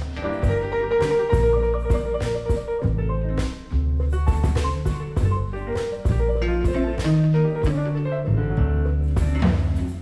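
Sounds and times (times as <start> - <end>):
instrumental music with drums: 0.0 - 10.0.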